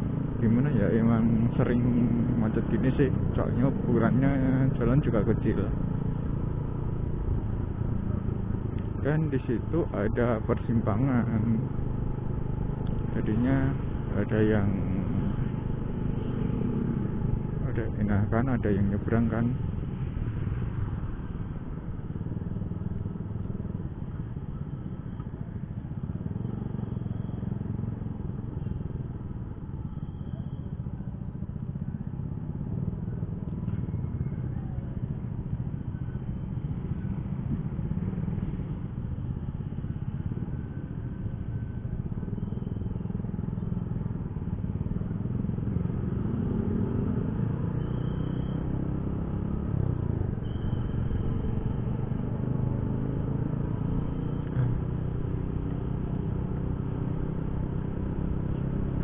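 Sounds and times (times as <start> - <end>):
motorcycle engine rumbling: 0.0 - 59.0
road and wind noise: 0.0 - 59.0
surrounding motorcycles and cars: 0.0 - 59.0.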